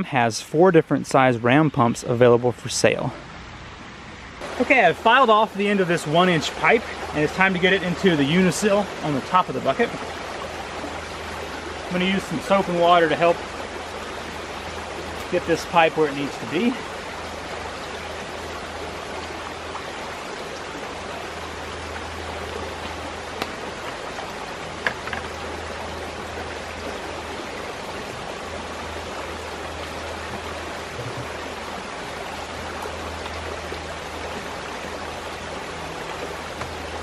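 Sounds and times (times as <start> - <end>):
creek running over rocks: 0.0 - 37.0.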